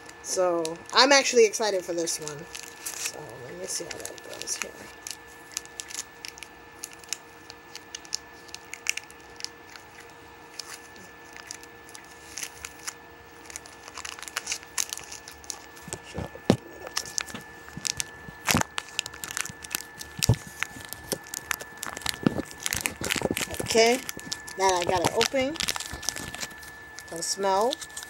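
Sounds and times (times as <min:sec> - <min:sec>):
plastic wrapper crinkling and tearing: 0:00.0 - 0:28.0.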